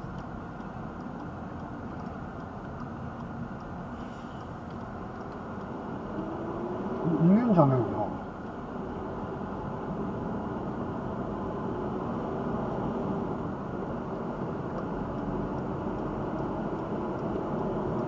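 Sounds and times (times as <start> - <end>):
car cabin engine and road rumble: 0.0 - 18.0.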